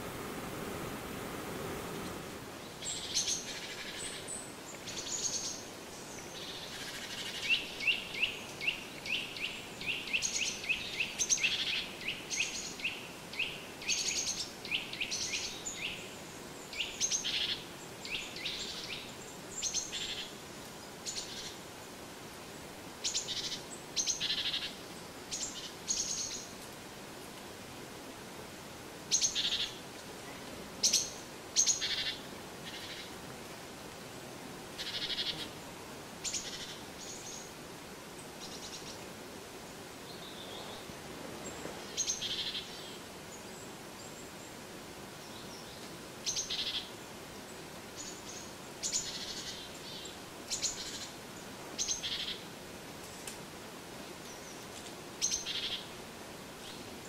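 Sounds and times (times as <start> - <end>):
songbirds chirping: 0.0 - 21.8, 29.1 - 57.0.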